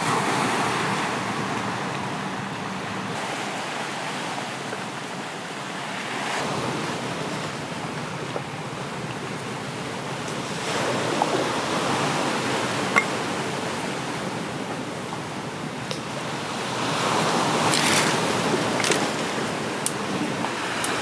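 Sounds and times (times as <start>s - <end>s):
ocean surf on shore: 0.0s - 21.0s.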